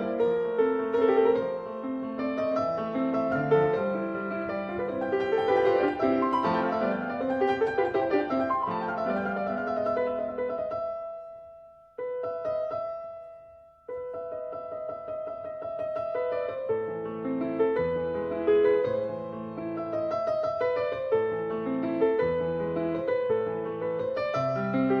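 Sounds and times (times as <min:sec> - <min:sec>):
background piano music: 0:00.0 - 0:25.0.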